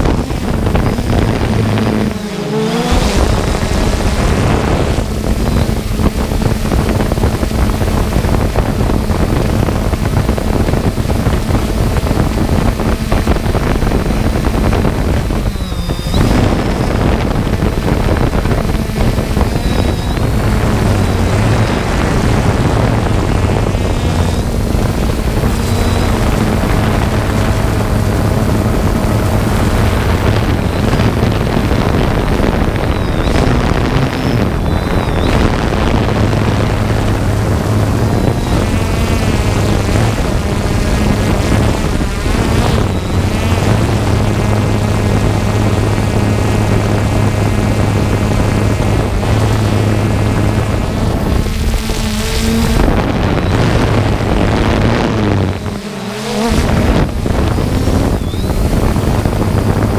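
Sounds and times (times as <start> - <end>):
drone propellers buzzing: 0.0 - 59.9
wind noise: 0.0 - 59.9.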